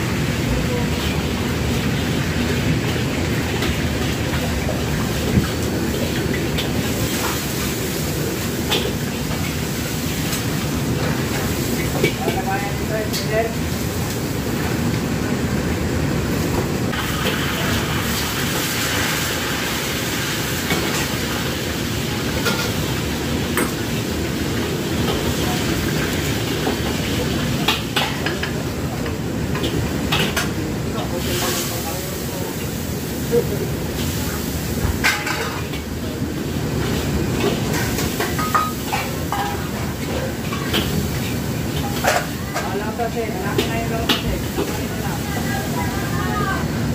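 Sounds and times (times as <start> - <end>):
gas burner rumbling: 0.0 - 46.9
kitchen extractor fan: 0.0 - 46.9
wok steam hissing: 0.0 - 46.9.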